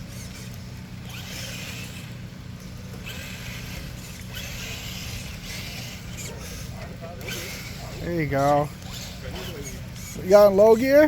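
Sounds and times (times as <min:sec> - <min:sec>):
electric motor and gears whirring: 0:00.0 - 0:11.0
steady low hum: 0:00.0 - 0:11.0.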